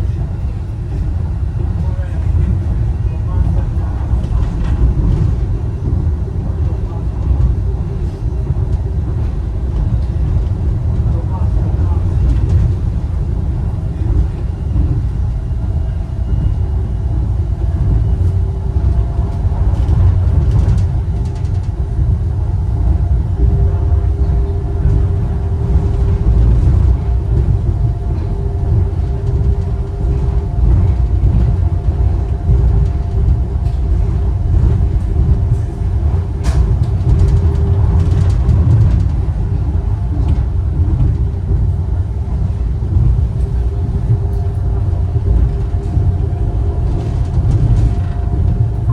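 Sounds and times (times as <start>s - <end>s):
suspension railway car rumbling: 0.0s - 48.9s.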